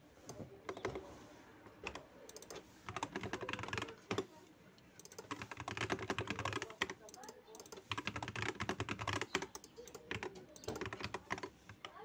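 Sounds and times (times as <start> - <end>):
typing on computer keyboard: 0.7 - 1.1, 1.8 - 4.3, 5.0 - 12.0.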